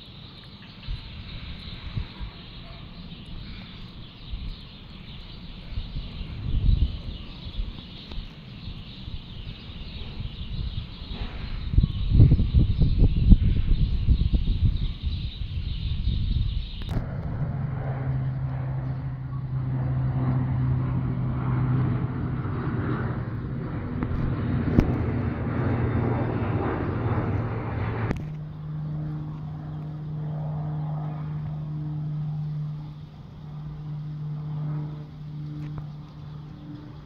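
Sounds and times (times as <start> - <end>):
propeller aircraft engine droning: 0.0 - 37.0.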